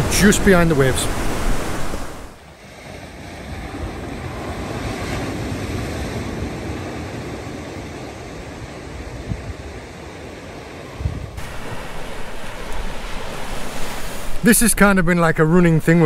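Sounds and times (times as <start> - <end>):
waves breaking on beach: 0.0 - 15.2
wind buffeting microphone: 0.0 - 16.0.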